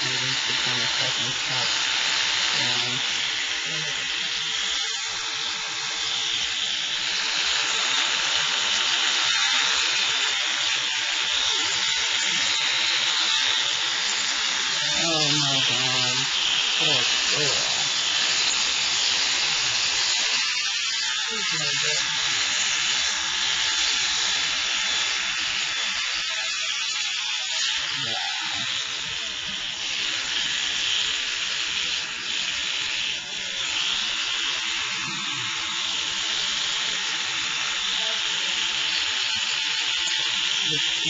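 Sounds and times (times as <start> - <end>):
electric clippers buzzing: 0.0 - 41.0.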